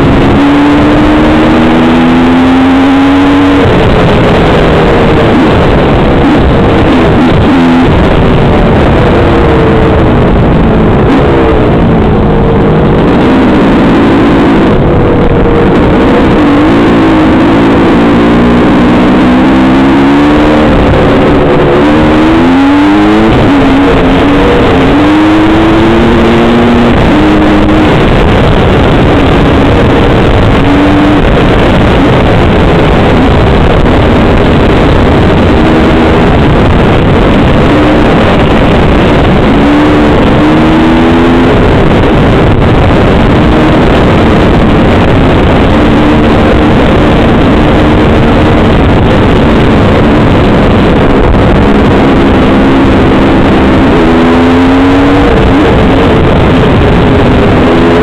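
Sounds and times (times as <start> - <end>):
dirt bike engine revving: 0.0 - 58.0
wind roar on microphone: 0.0 - 58.0.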